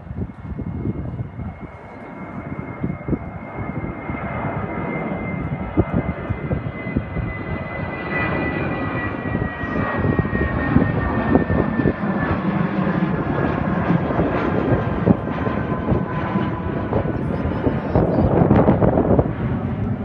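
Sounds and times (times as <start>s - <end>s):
airplane passing overhead: 0.0s - 20.0s.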